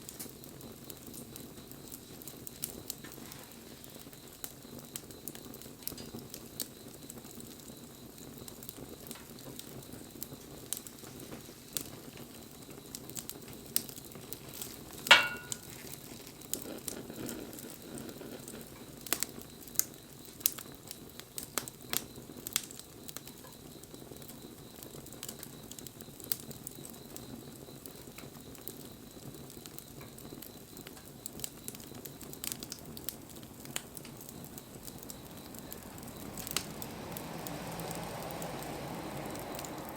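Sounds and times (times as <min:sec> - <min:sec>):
campfire crackling and hissing: 0:00.0 - 0:39.9
sharp pops of burning wood: 0:00.0 - 0:39.9.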